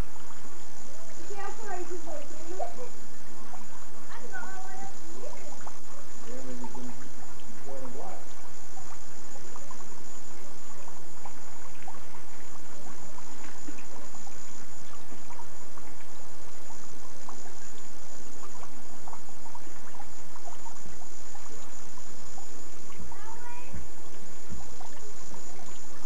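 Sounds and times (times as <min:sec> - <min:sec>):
small splashes and ticks: 0:00.0 - 0:26.0
steady hiss: 0:00.0 - 0:26.0.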